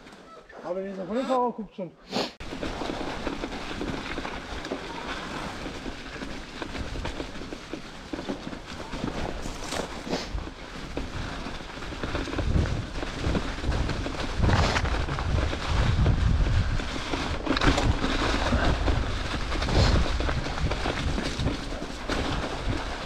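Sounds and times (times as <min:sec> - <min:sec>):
bike rattling and knocking: 0:02.4 - 0:23.0
bike tyres on trail: 0:02.4 - 0:23.0
wind rumble on microphone: 0:02.5 - 0:23.0.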